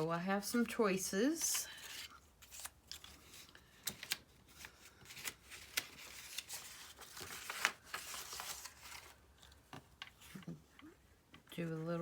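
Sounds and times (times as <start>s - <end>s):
paper and card rustling: 0.4s - 10.6s.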